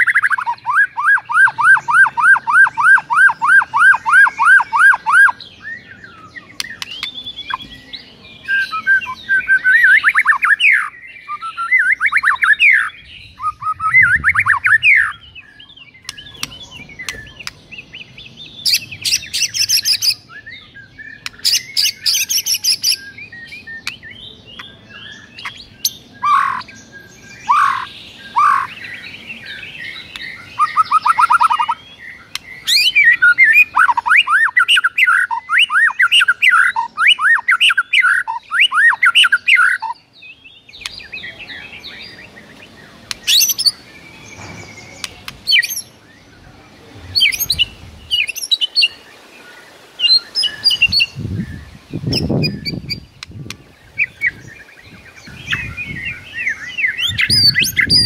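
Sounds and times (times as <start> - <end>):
bird singing varied phrases: 0.0 - 58.0.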